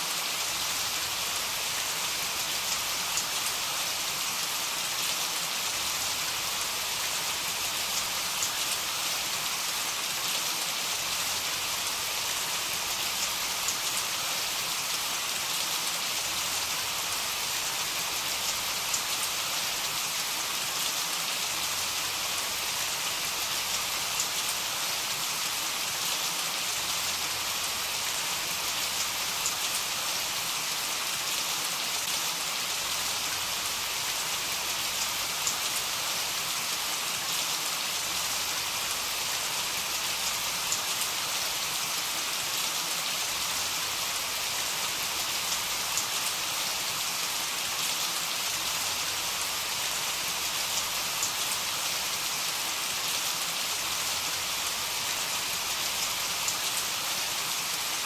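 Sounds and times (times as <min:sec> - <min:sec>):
heavy rain falling: 0:00.1 - 0:58.0.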